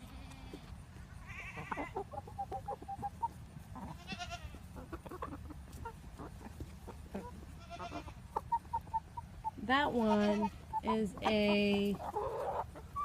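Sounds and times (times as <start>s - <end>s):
chickens clucking: 0.0s - 13.0s
chicken squawks: 1.2s - 13.0s.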